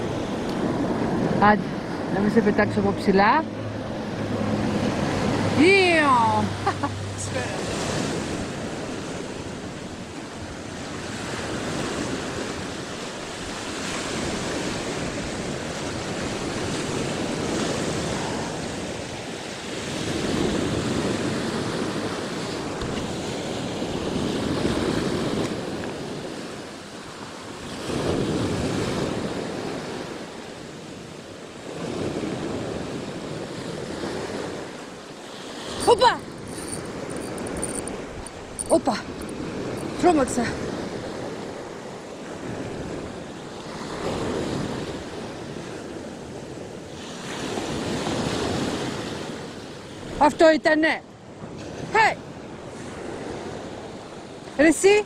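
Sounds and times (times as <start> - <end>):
wind buffeting microphone: 0.0 - 50.3
sea waves washing in: 0.0 - 55.0.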